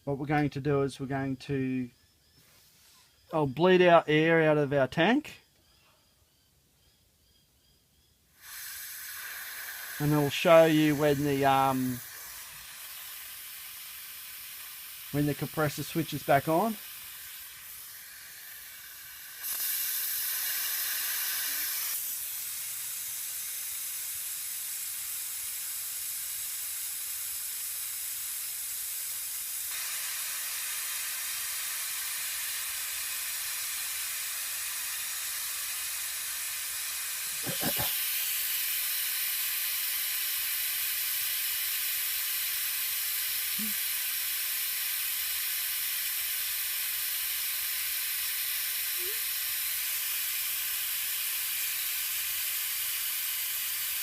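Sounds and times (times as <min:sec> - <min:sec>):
compressed air hissing from tank: 0:02.4 - 0:03.3, 0:08.3 - 0:54.0.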